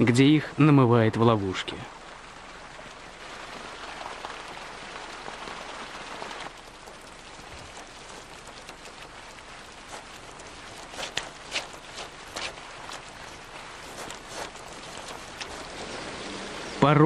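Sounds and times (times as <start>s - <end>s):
running water rushing and splashing: 0.0s - 17.0s.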